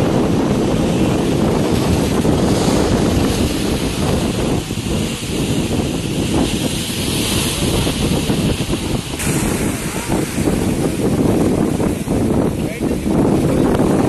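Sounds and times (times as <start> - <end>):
waves breaking against rocks: 0.0 - 14.0
wind rumbling on microphone: 0.0 - 14.0.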